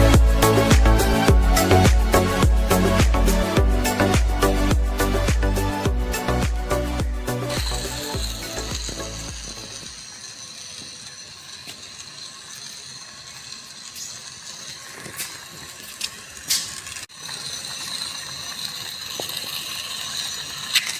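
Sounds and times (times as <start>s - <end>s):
geared mechanism whining: 0.0s - 20.9s.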